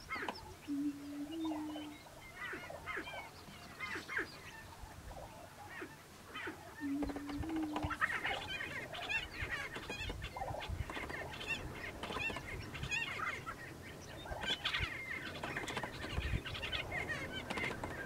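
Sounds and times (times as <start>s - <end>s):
prairie chickens calling: 0.0s - 18.0s.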